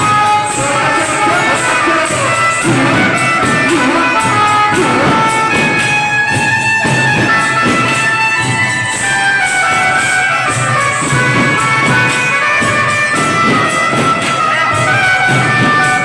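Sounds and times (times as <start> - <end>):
steady drum beat: 0.0 - 16.0.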